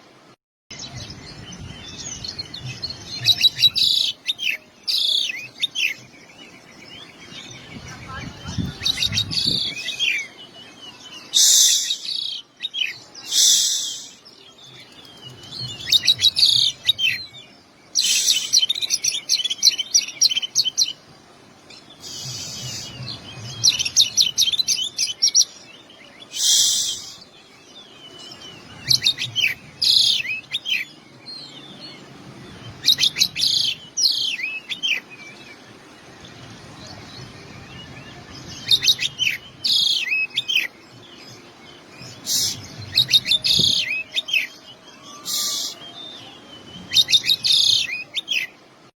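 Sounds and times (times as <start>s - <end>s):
magpie-robin singing: 1.0s - 21.0s, 21.9s - 32.1s, 32.7s - 48.7s.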